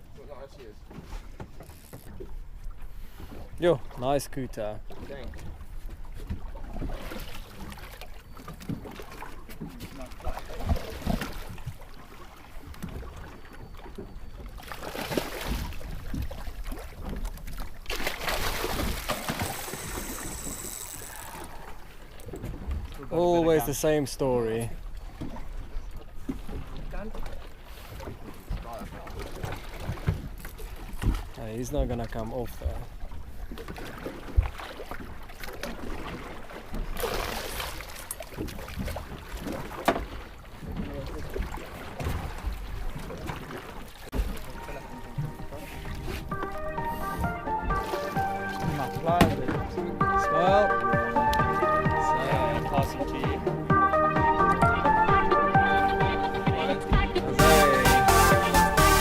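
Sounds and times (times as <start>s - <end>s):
water sloshing against hull: 0.0s - 57.4s
sea noise: 0.0s - 59.0s
wind: 0.0s - 59.0s.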